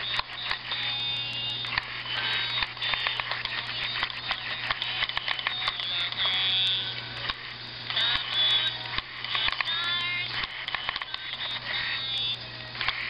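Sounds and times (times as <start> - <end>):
toy motor buzzing whir: 0.0 - 13.0.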